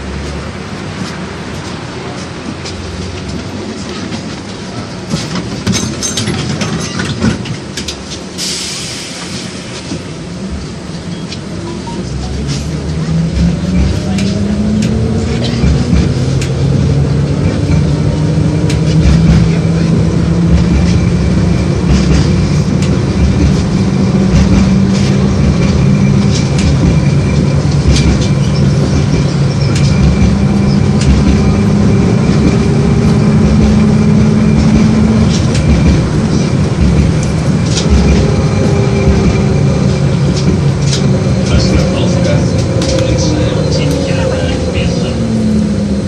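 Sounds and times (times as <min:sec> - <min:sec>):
tram motor hum: 0:00.0 - 0:46.0
wheels rumbling on rail: 0:00.0 - 0:46.0.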